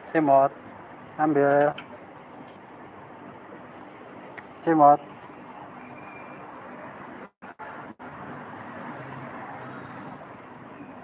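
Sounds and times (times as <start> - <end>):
street traffic hum: 0.0 - 11.0.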